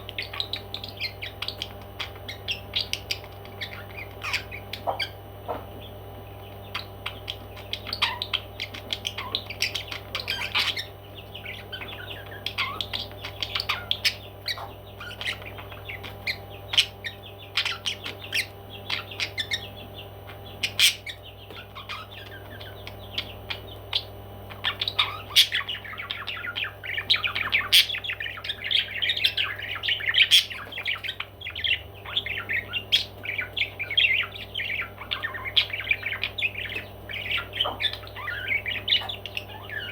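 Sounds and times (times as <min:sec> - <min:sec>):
parrots squawking: 0:00.0 - 0:39.9
steady low hum: 0:00.0 - 0:39.9.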